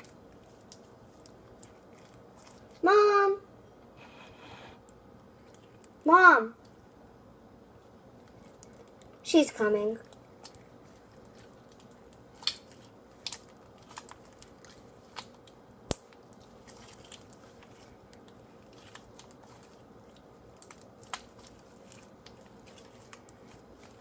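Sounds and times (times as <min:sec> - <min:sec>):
slime squishing: 0:00.0 - 0:03.0, 0:06.6 - 0:24.0.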